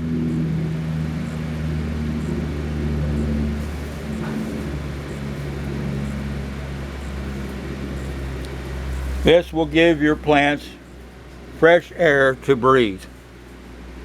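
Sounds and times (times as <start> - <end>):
box fans humming: 0.0 - 14.0.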